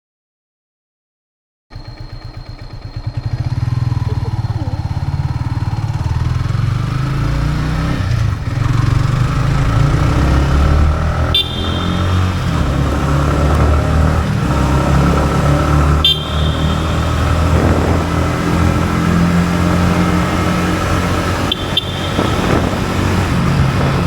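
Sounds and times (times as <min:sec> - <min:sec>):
motorcycle engine putting: 0:01.7 - 0:07.1, 0:08.5 - 0:24.0.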